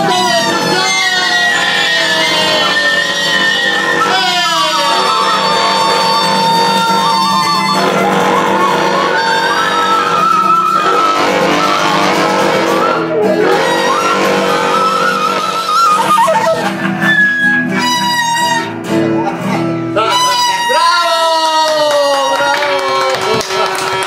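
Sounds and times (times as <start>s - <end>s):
wooden flutes melody: 0.0s - 19.4s, 20.0s - 24.0s
guitar strummed: 0.0s - 21.0s.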